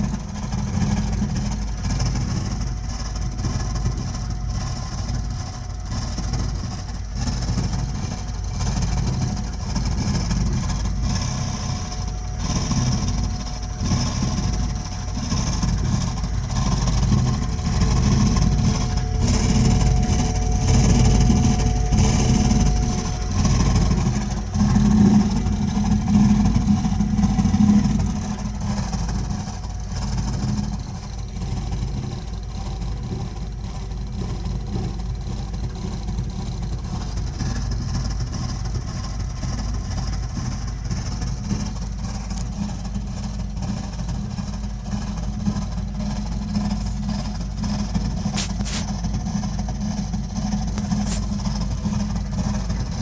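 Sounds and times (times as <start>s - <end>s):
boiler low rumbling: 0.0s - 53.0s.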